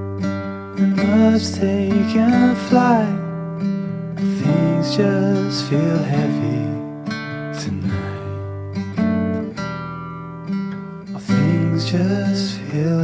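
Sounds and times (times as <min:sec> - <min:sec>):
strummed acoustic guitar song: 0:00.0 - 0:13.0.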